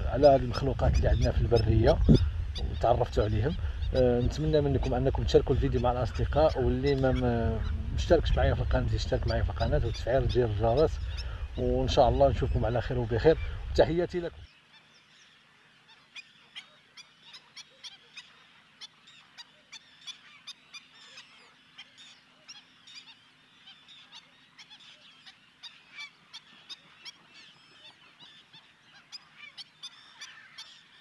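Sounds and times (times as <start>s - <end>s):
waterbird flock calling: 0.0s - 31.0s.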